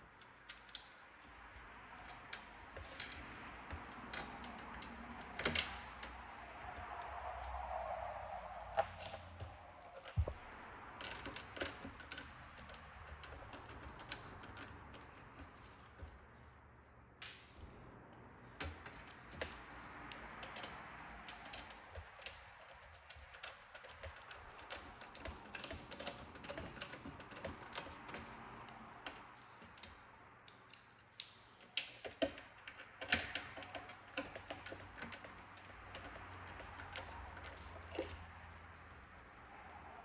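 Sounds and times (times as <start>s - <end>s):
small hard parts clicking: 0.0s - 40.0s.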